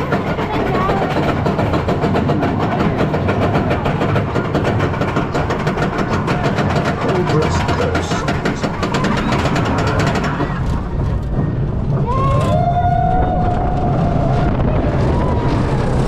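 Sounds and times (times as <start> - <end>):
wheels rumbling on track: 0.0 - 16.0.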